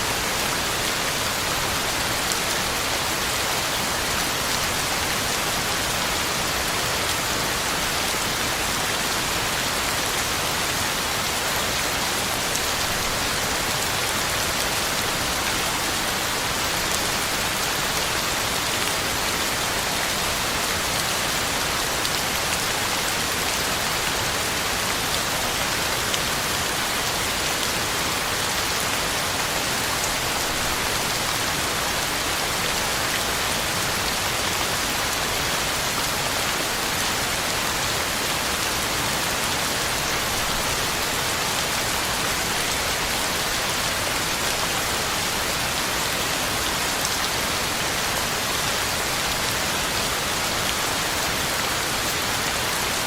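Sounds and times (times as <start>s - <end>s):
heavy rain pattering on leaves: 0.0s - 53.0s.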